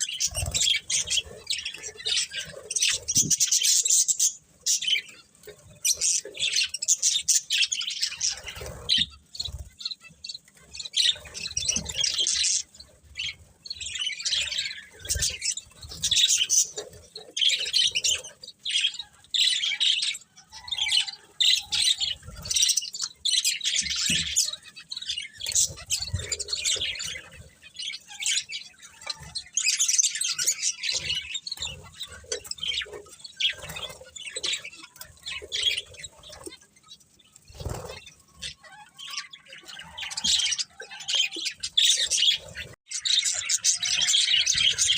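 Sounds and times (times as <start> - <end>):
budgerigars chirping: 0.0 - 36.6, 37.2 - 44.9.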